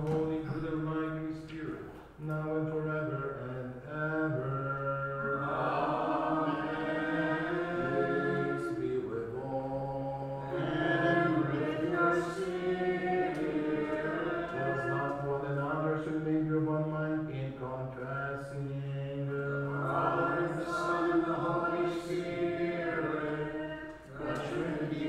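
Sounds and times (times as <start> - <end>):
low voices chanting: 3.0 - 25.0.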